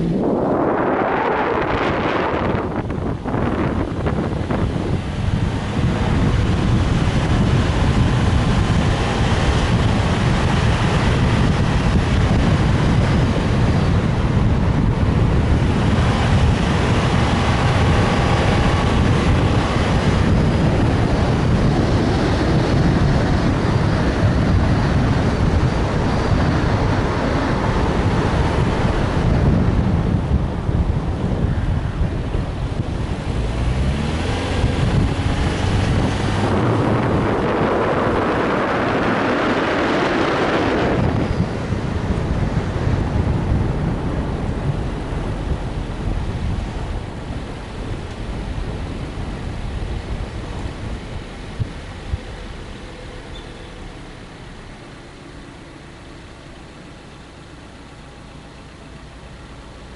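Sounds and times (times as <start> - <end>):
car road noise: 0.0 - 59.9
wind buffeting microphone: 0.0 - 59.9.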